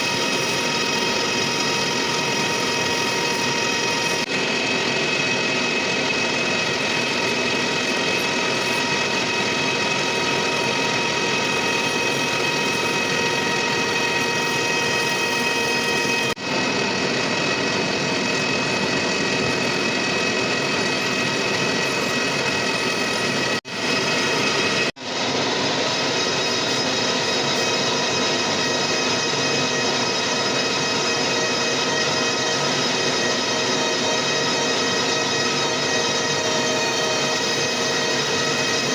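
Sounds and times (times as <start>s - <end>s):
machine tool machining metal: 0.0s - 38.9s
steady whining tones: 0.0s - 38.9s.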